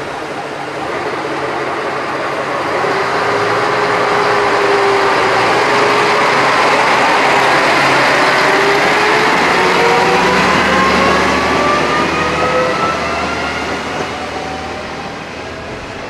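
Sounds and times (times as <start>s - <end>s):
diesel train engine rumbling: 0.0s - 16.0s.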